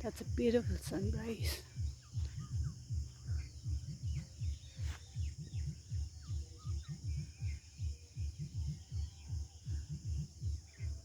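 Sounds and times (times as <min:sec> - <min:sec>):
faint bird chirps: 0:00.0 - 0:11.0
rapid low pulsing: 0:00.0 - 0:11.0.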